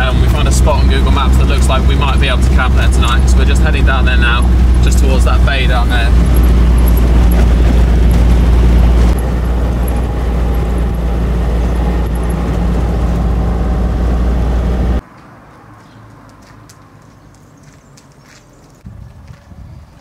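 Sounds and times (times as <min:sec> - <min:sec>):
engine and tyre rumble: 0:00.0 - 0:19.3.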